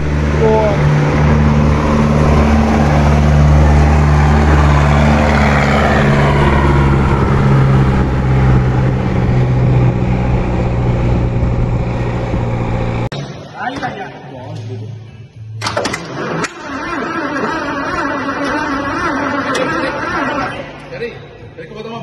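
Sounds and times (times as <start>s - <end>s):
armored car engine running: 0.0s - 13.1s, 15.8s - 20.8s.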